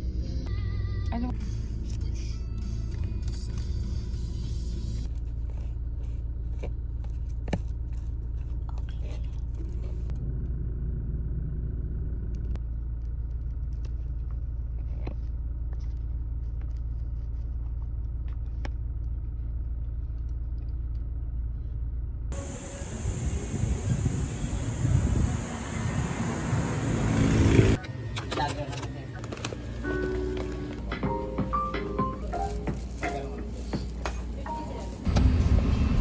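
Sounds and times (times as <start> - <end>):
car interior rumble: 0.1 - 36.0.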